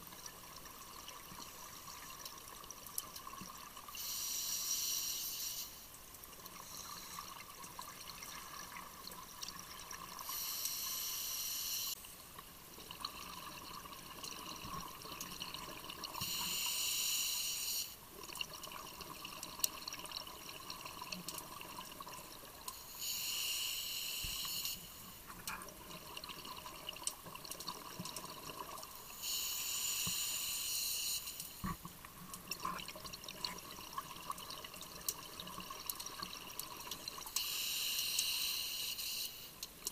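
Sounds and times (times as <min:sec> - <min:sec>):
steady underwater hiss: 0:00.0 - 0:39.9.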